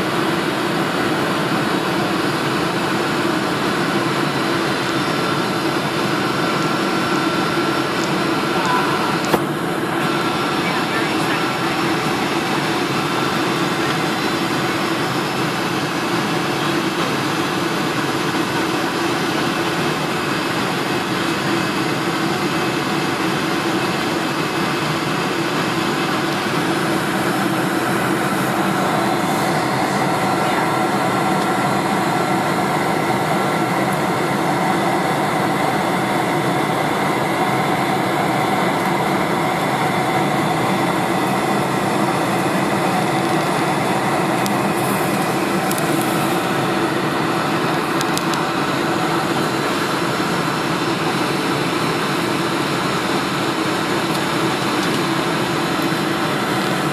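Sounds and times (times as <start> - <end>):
airliner cabin engine roar: 0.0 - 56.9.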